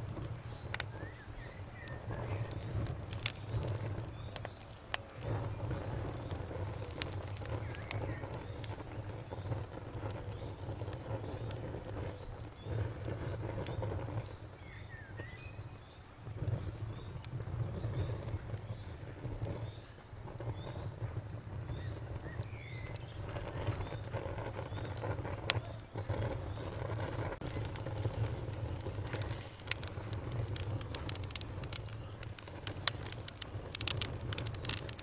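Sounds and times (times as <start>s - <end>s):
campfire crackling and popping: 0.0s - 35.0s
crickets chirping: 0.0s - 35.0s.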